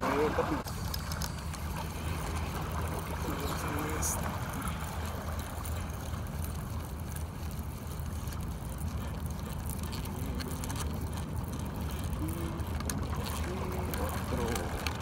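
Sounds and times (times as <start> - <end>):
water at the shoreline: 0.0 - 15.0
wind: 0.0 - 15.0.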